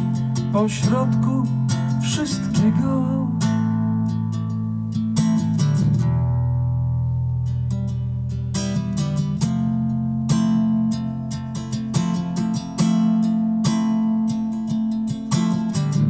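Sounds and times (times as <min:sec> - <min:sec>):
acoustic guitar plucking and strumming: 0:00.0 - 0:16.0.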